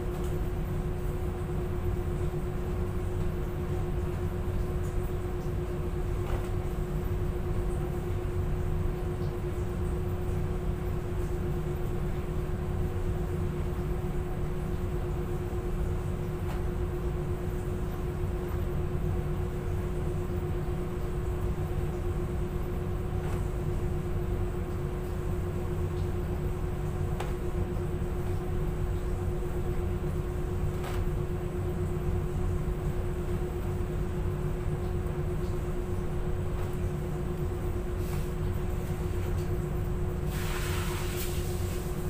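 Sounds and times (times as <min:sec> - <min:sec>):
laundry machinery drone: 0:00.0 - 0:42.0.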